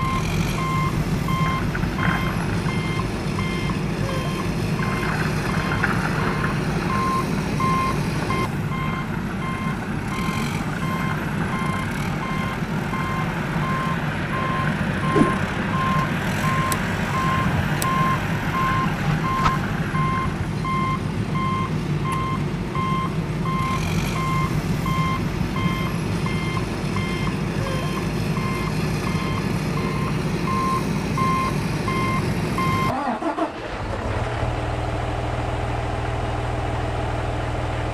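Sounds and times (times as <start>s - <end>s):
reversing alarm beeping: 0.0s - 5.8s, 6.9s - 32.9s
diesel engine running: 0.0s - 37.9s.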